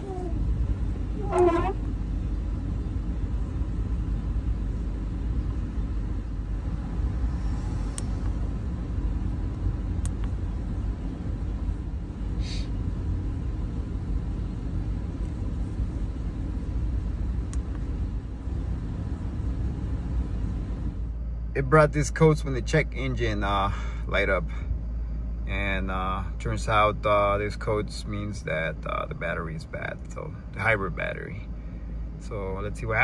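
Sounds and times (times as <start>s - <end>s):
engine rumbling inside car: 0.0s - 33.0s.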